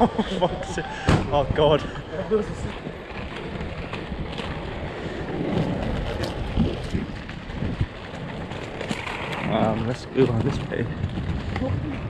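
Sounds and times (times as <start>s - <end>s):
skate wheels rolling on tarmac: 0.0s - 12.0s
wind on microphone: 0.5s - 12.0s
skate wheel clacks: 1.7s - 12.0s.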